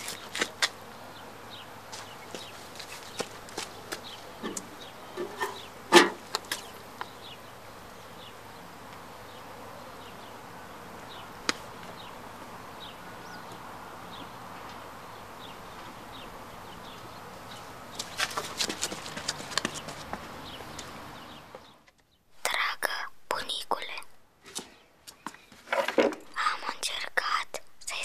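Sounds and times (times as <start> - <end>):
faint outdoor hush: 0.0 - 28.0.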